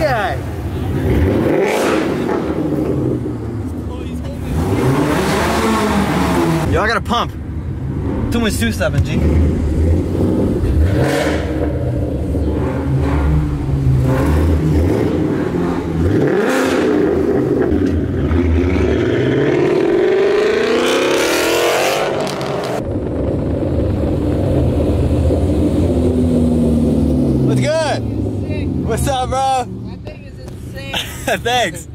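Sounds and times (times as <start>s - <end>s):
car engine revving: 0.0s - 30.6s.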